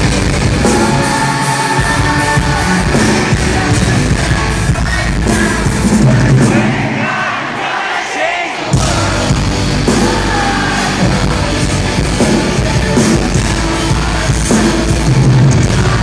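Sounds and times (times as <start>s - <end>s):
rock band playing live: 0.0s - 7.6s, 8.6s - 16.0s.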